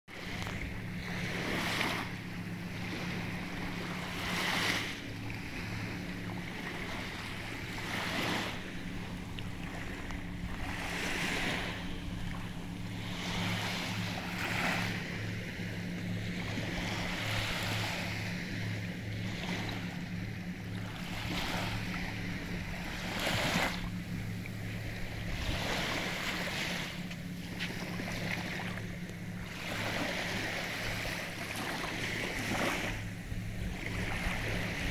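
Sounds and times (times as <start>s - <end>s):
small waves breaking on shore: 0.1s - 34.9s
steady low hum: 0.1s - 34.9s.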